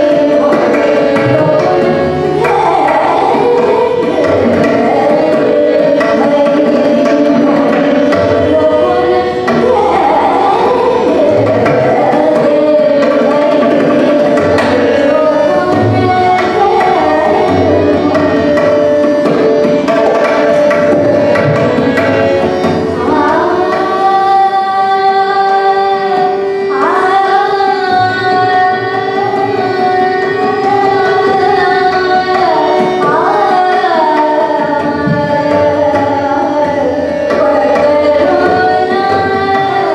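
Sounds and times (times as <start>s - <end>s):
tabla: 0.0s - 39.9s
woman singing: 0.0s - 39.9s.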